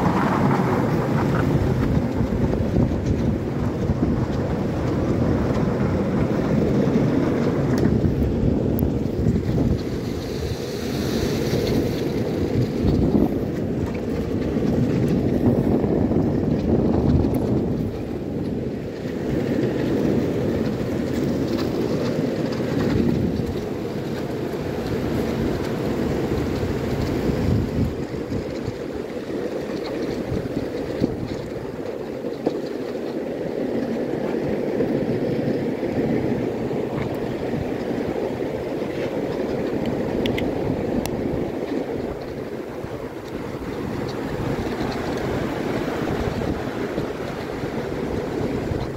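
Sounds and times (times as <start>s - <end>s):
skateboard wheels rolling on asphalt: 0.0s - 48.9s.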